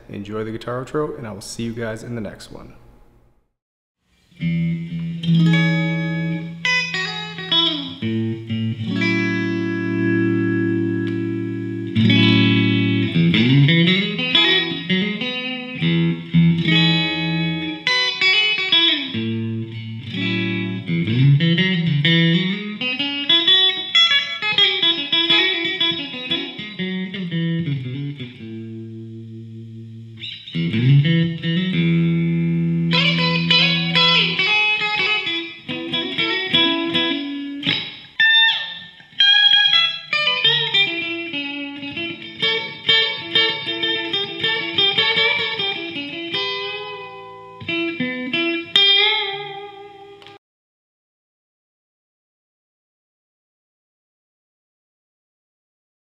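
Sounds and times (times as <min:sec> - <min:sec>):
electric guitar music: 0:04.2 - 0:50.4.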